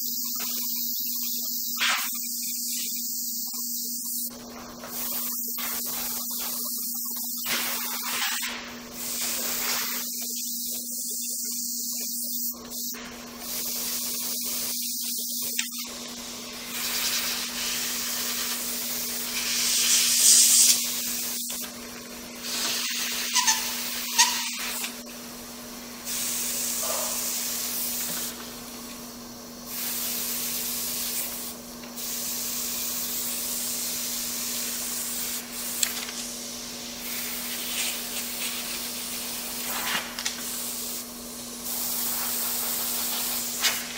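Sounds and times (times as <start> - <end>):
airbrush air hissing: 4.9 - 11.0, 12.8 - 15.5, 16.2 - 21.6, 22.4 - 43.9.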